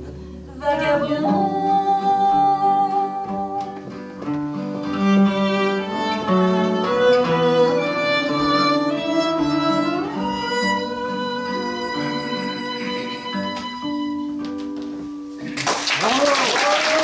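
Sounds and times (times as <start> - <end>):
acoustic guitar accompaniment: 0.0 - 17.0
violin swing jazz melody: 0.7 - 15.4.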